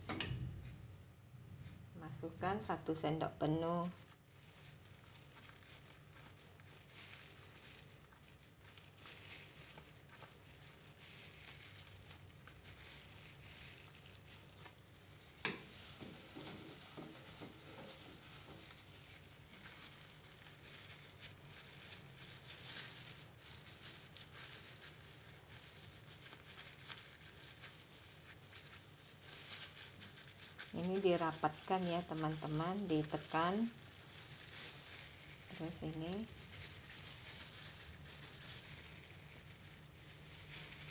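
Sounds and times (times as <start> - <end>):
leaf wrapper rustling and crinkling: 0.0 - 40.9.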